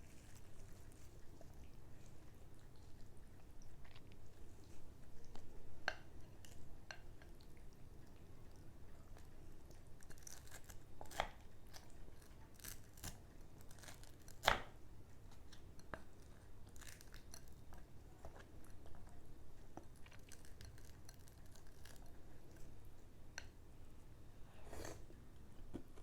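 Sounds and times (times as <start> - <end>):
chewing with crunches: 0.0 - 14.5, 15.1 - 23.0.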